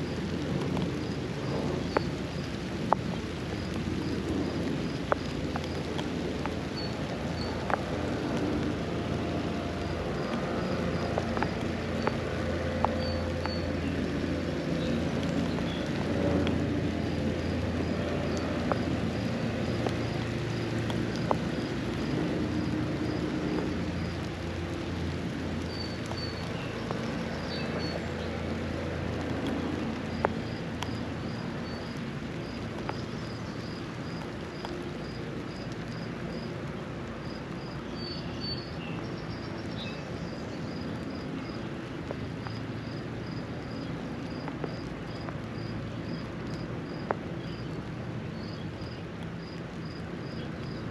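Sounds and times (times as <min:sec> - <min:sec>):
rain drop ticks: 0:00.0 - 0:50.9
steady rain: 0:00.0 - 0:50.9.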